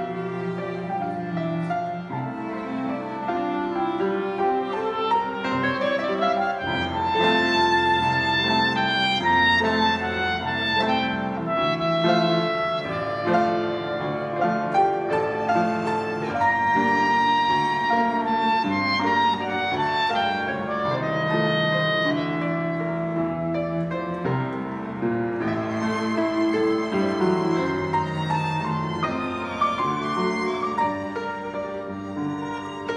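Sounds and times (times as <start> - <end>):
chamber quartet playing a waltz: 0.0 - 32.9.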